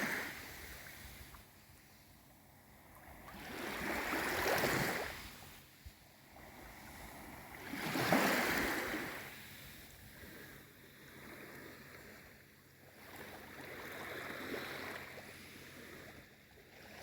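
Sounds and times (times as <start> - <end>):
small waves washing in: 0.0 - 1.5, 2.9 - 17.0.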